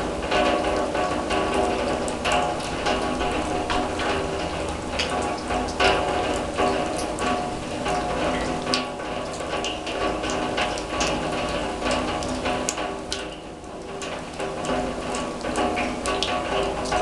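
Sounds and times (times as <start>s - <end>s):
rain on a steel drum: 0.0s - 17.0s.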